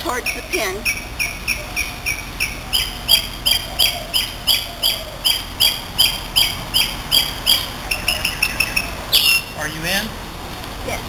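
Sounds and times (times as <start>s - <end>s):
animal calling high note: 0.2s - 9.6s.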